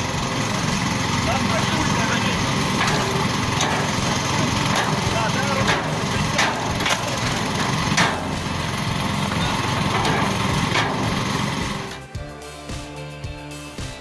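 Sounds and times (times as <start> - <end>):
wood splitting machine running: 0.0 - 12.2.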